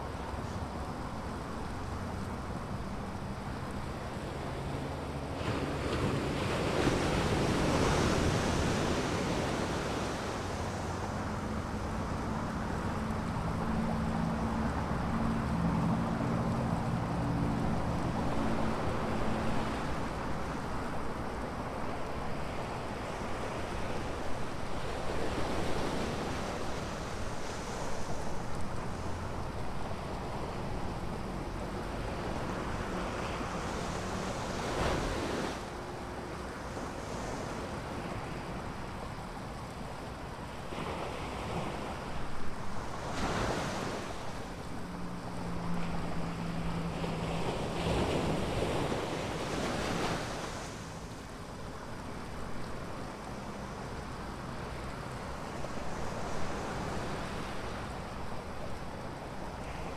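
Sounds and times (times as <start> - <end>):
ocean waves breaking: 3.2 - 59.9.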